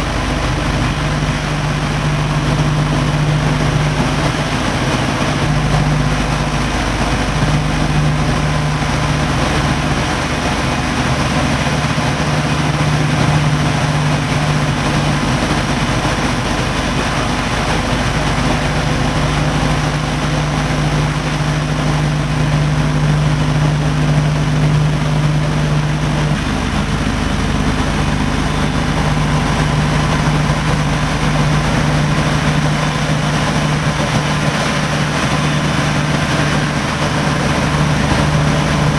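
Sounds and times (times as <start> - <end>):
aircraft radial engines droning: 0.0 - 38.9.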